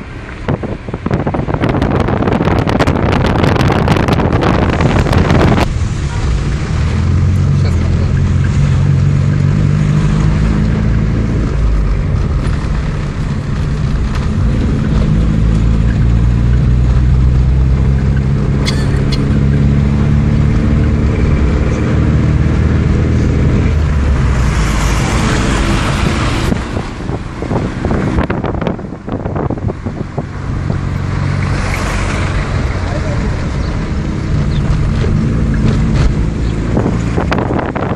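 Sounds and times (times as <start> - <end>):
wind buffeting microphone: 0.0 - 19.5, 20.6 - 37.9
car engine and road noise: 0.0 - 37.9.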